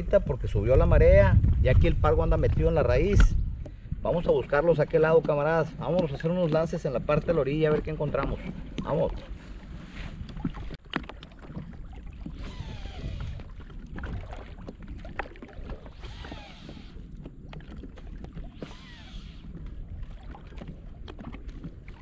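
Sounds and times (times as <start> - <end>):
water splashing around a boat: 0.0 - 22.0
wind rumble on microphone: 0.0 - 22.0.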